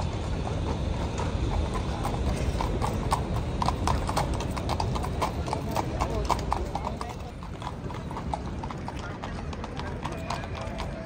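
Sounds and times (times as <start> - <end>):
hooves clip-clopping on stone: 0.0 - 11.0
low street noise: 0.0 - 11.0.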